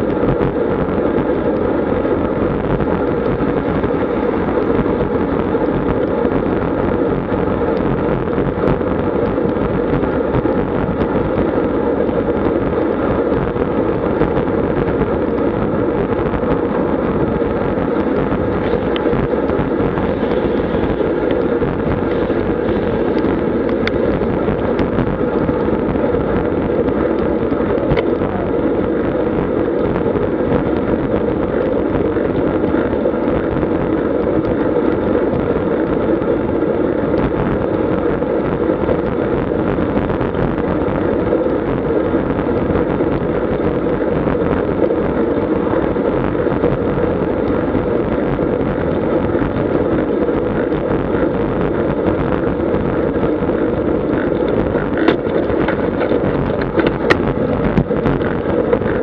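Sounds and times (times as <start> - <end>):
tyre noise on road: 0.0 - 59.0
wind buffeting microphone: 0.0 - 59.0.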